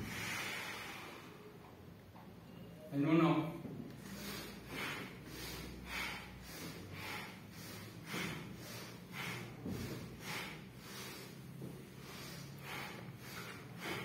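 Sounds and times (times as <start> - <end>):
choir hissy breathing in unison: 0.0 - 1.5, 4.0 - 14.0.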